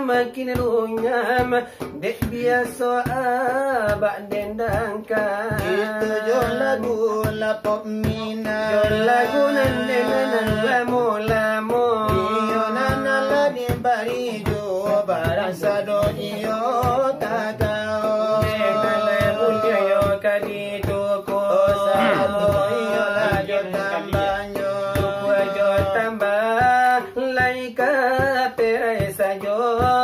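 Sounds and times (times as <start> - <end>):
men chanting melody: 2.0 - 30.0.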